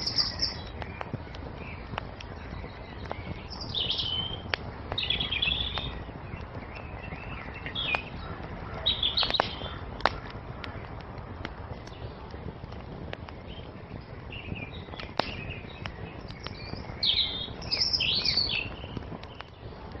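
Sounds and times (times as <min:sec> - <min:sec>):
sharp fire pops: 0:00.0 - 0:20.0
songbirds chirping: 0:00.0 - 0:20.0
steady low rumble: 0:00.0 - 0:20.0
wood fire crackling: 0:00.0 - 0:20.0.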